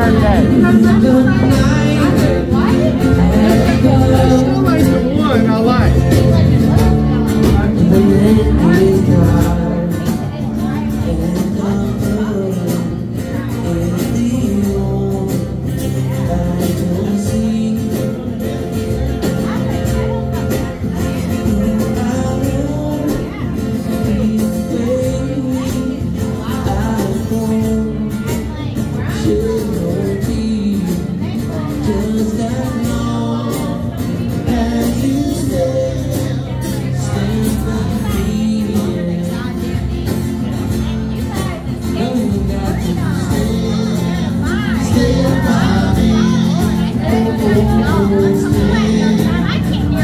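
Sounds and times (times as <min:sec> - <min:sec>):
guitar: 0:00.0 - 0:50.0
live band playing: 0:00.0 - 0:50.0
person singing: 0:00.0 - 0:50.0.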